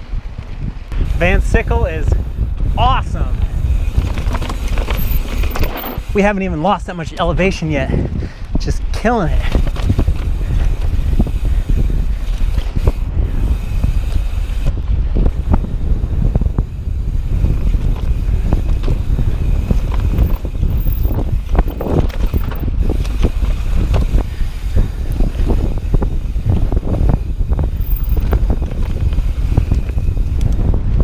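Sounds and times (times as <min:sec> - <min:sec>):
steady low rumble: 0:00.0 - 0:31.0
wind buffeting microphone: 0:00.0 - 0:31.0
bike rattling clicks and knocks: 0:03.4 - 0:06.4, 0:08.9 - 0:31.0.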